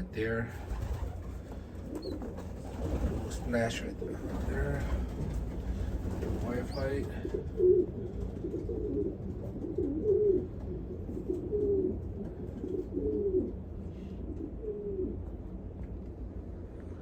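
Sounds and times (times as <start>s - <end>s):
pigeons cooing: 0.0s - 15.3s
low steady hum: 0.0s - 17.0s.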